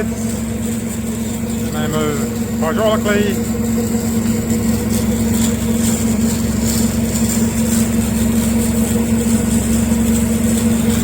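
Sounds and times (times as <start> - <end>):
bandsaw running: 0.0 - 11.0.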